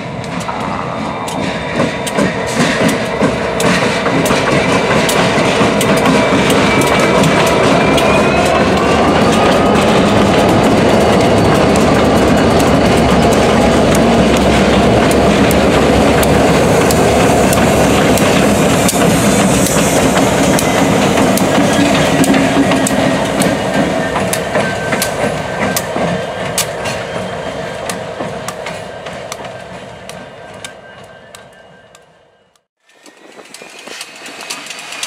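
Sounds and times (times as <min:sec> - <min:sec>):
train wheels clacking on rail joints: 0:00.0 - 0:32.1, 0:32.8 - 0:35.0
diesel locomotive engines running: 0:00.0 - 0:35.0.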